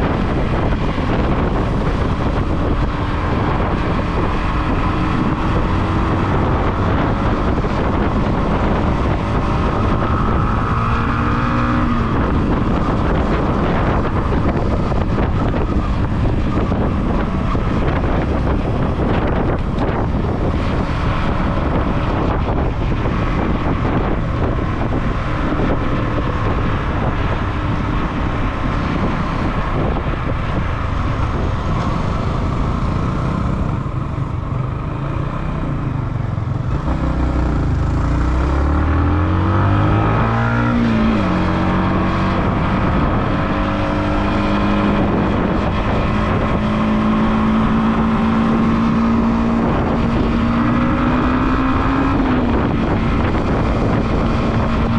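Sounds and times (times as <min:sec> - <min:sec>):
motorcycle engine revving: 0:00.0 - 0:54.9
wind rushing over microphone: 0:00.0 - 0:54.9.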